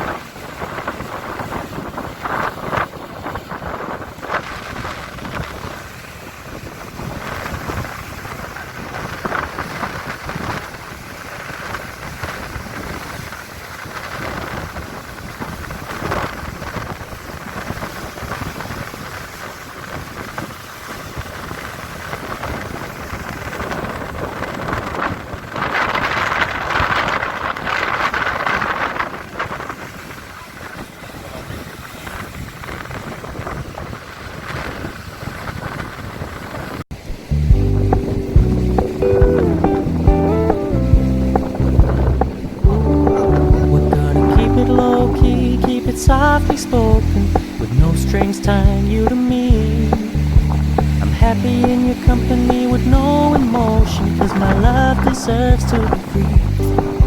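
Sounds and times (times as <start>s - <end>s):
sea waves breaking: 0.0s - 57.0s
wind buffeting microphone: 0.0s - 57.0s.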